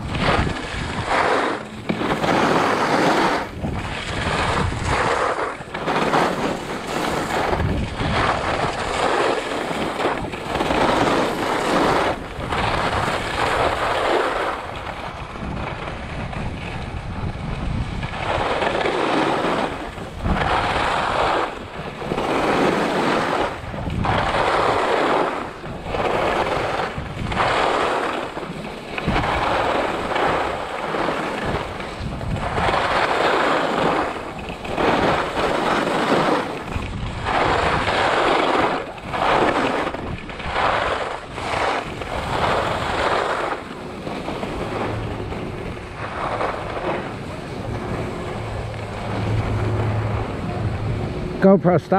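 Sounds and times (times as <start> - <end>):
skis scraping on snow: 0.0 - 51.9
wind rumble on microphone: 0.0 - 51.9.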